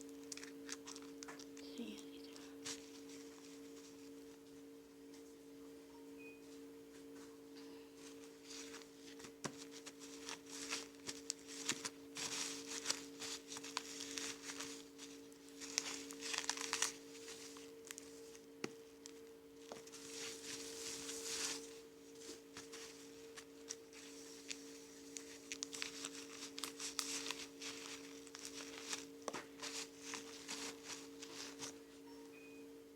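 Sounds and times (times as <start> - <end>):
crinkling and rustling handling: 0.0 - 5.4, 6.5 - 32.1.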